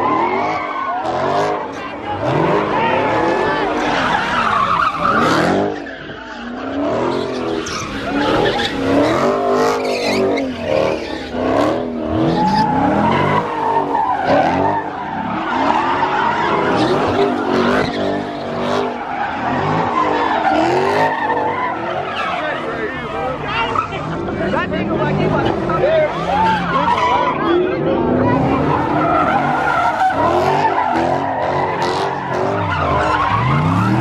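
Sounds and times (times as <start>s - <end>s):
car engine revving: 0.0s - 34.0s
tyres squealing: 0.0s - 34.0s.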